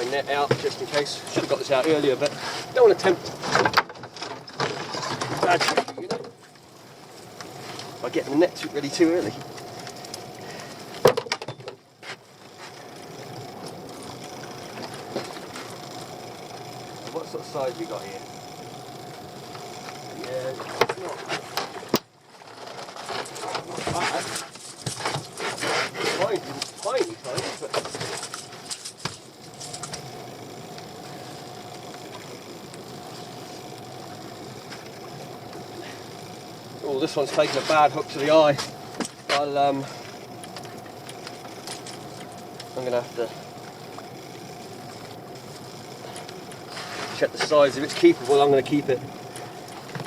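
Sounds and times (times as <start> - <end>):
boat engine idling: 0.0 - 50.0.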